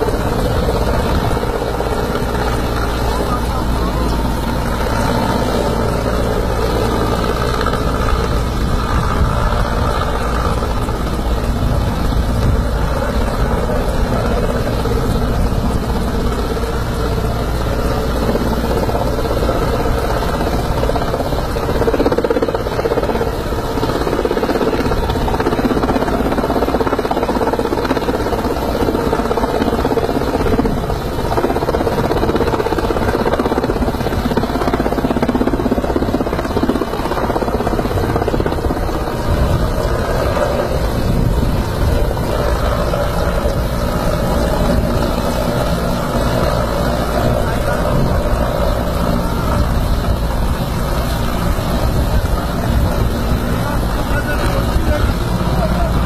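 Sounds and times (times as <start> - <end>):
helicopter rotor and engine noise: 0.0 - 56.0.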